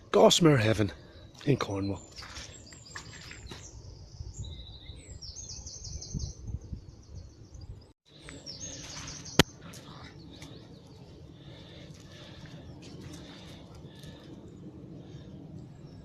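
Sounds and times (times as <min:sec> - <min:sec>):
songbirds trilling: 0:00.0 - 0:16.0.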